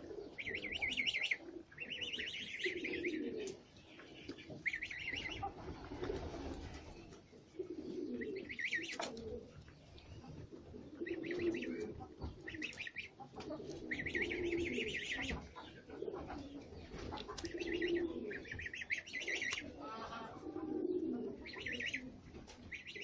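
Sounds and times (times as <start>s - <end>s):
pigeons cooing: 0.0s - 23.0s
small birds chirping: 0.0s - 23.0s.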